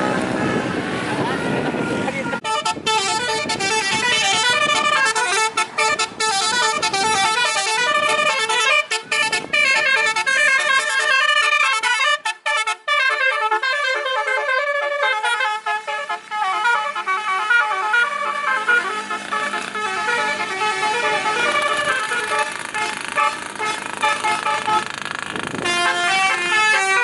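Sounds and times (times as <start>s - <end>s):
horn trumpets playing a tune: 0.0s - 27.0s.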